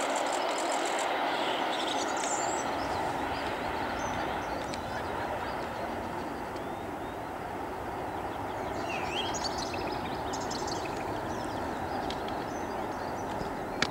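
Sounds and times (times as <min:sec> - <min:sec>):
distant jet engine roar: 0:00.0 - 0:13.9
small birds chirping: 0:00.0 - 0:13.9.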